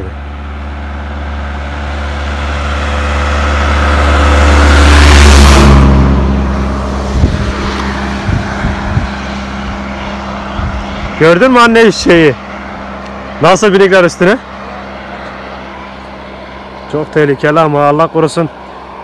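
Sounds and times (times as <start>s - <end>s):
vehicle engine driving past: 0.0s - 19.0s.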